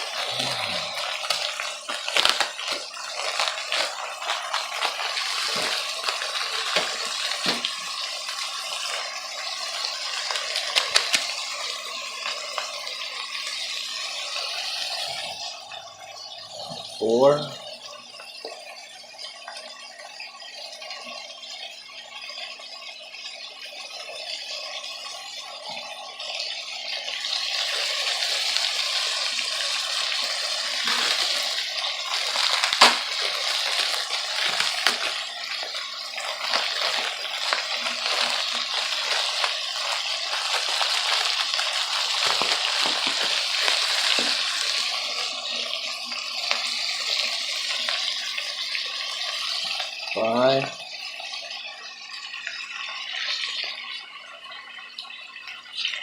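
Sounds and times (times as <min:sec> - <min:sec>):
water running from a tap: 0:00.0 - 0:56.0.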